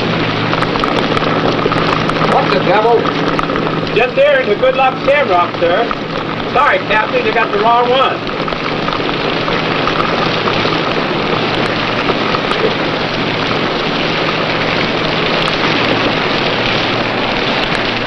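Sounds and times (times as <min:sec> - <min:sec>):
heavy rain hissing: 0:00.0 - 0:18.0
low steady hum: 0:00.0 - 0:18.0.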